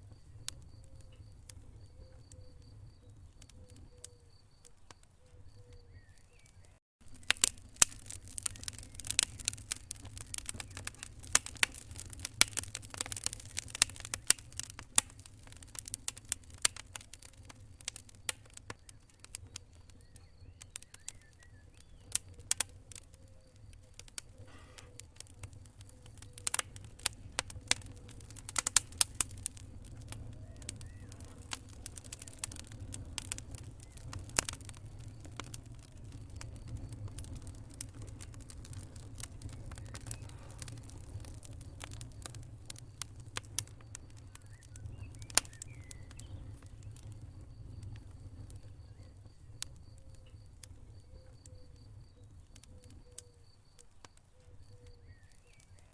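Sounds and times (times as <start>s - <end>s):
fire low rumble: 0.0s - 55.9s
wood fire crackling: 0.0s - 55.9s.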